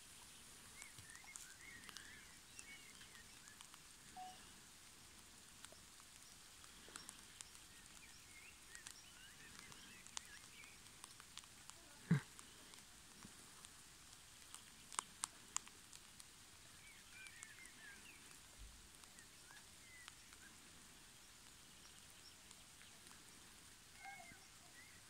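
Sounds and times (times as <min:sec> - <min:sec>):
faint birds chirping: 0:00.0 - 0:25.0
faint ticks: 0:00.1 - 0:25.0.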